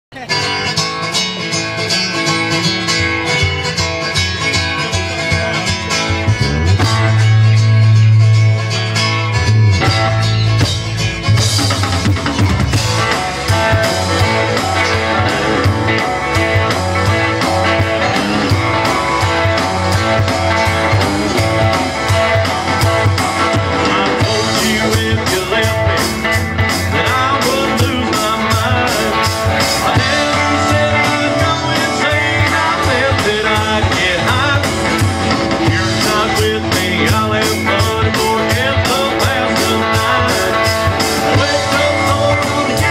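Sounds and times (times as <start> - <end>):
live band playing: 0.1 - 42.9.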